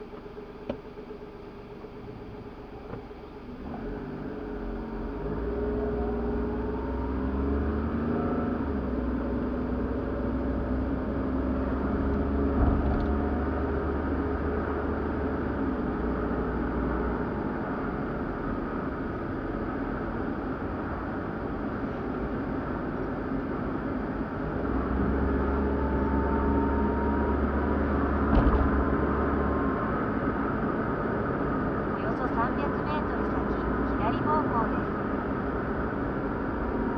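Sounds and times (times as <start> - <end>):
road rumble: 0.0 - 36.9
car engine accelerating: 2.2 - 36.9.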